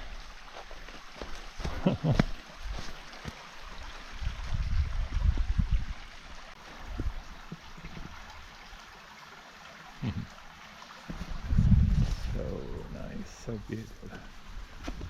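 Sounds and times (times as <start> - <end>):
creek running over rocks: 0.0 - 15.0.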